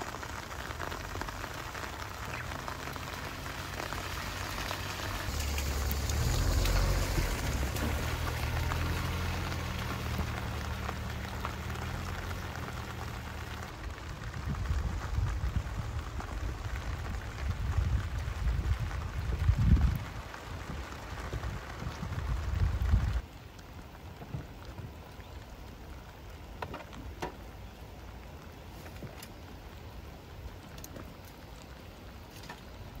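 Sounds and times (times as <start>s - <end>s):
rain falling on gravel: 0.0s - 33.0s.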